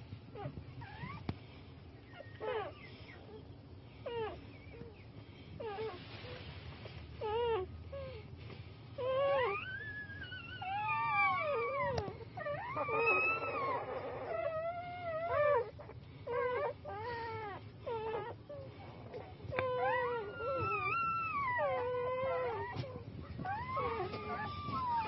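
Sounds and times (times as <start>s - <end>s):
puppies whining cries: 1.9s - 6.5s, 7.2s - 8.3s, 9.0s - 25.0s.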